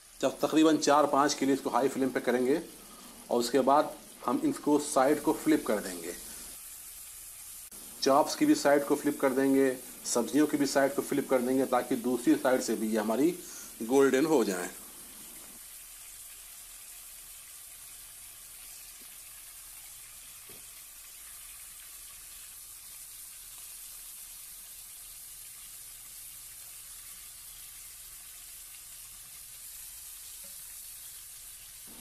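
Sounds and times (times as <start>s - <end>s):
meat and vegetables sizzling: 0.0s - 32.0s.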